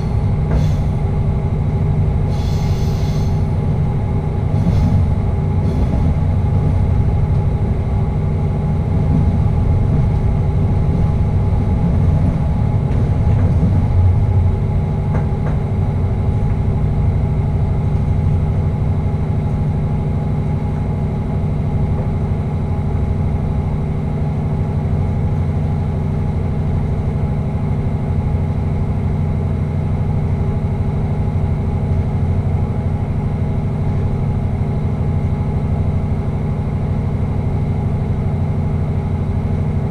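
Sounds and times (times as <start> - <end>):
train rumbling in tunnel: 0.0 - 39.9.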